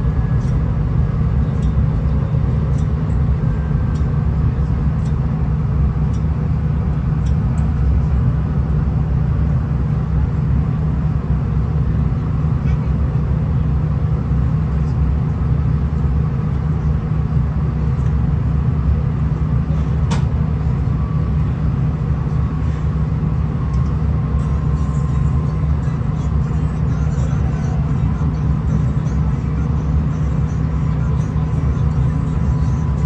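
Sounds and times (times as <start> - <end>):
railcar engine and wheels rumbling: 0.0 - 33.0.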